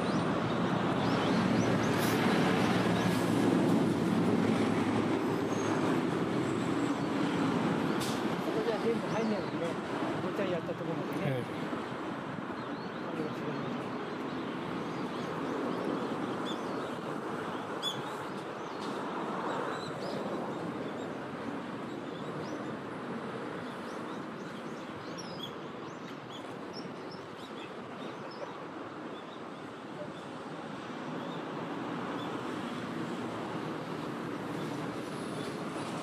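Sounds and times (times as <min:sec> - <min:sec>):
outdoor background rush: 0:00.0 - 0:36.0.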